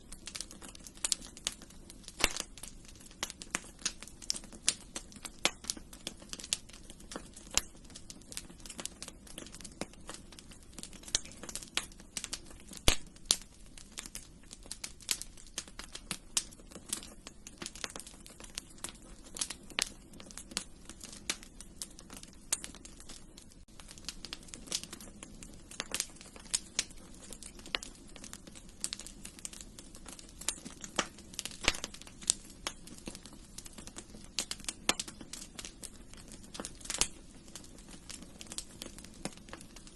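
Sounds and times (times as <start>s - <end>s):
low rush of fire: 0.0s - 39.9s
wood fire crackling and popping: 0.0s - 39.9s.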